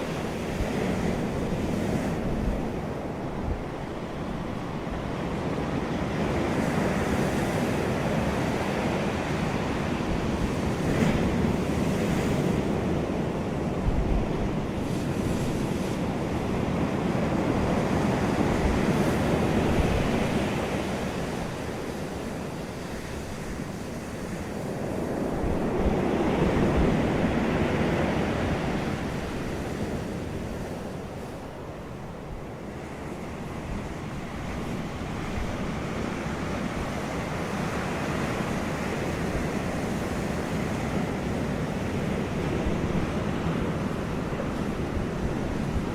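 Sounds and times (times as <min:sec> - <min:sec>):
wind blowing over microphone: 0:00.0 - 0:45.9.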